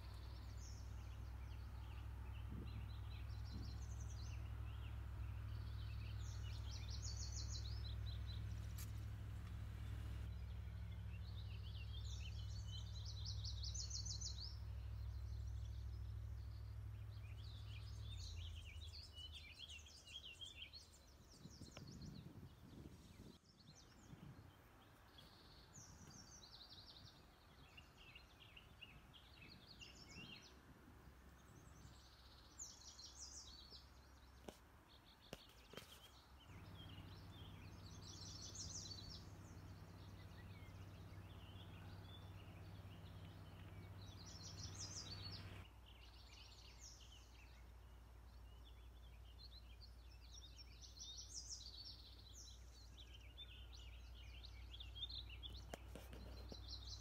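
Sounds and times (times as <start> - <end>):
faint songbird song: 0.0 - 57.0
outdoor background noise: 0.0 - 57.0.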